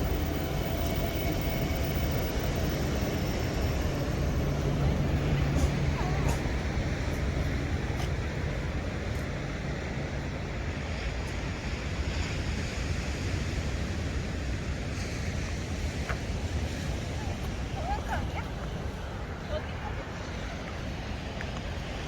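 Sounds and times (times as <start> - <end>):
sea surf washing in: 0.0 - 22.0.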